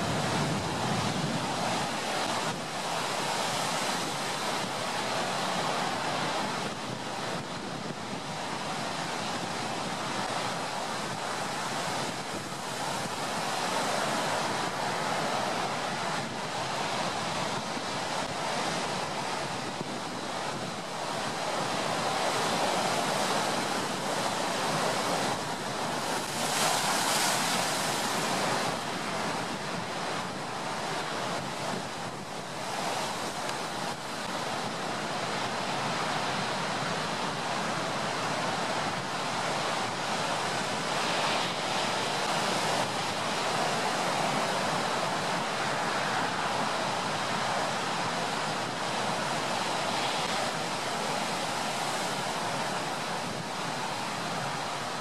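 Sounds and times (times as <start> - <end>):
ocean surf washing in: 0.0 - 55.0.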